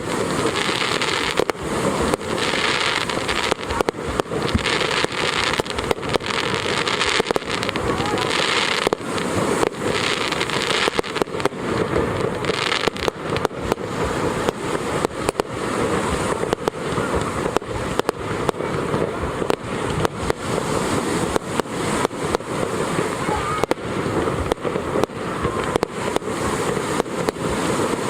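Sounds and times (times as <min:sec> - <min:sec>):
fireworks bangs: 0:00.0 - 0:28.0
fireworks crackle and rumble: 0:00.0 - 0:28.0.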